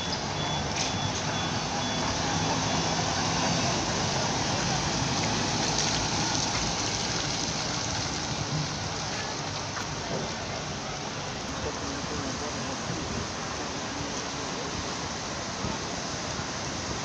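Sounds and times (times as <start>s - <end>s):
trolleybus tyres hissing: 0.0s - 17.0s.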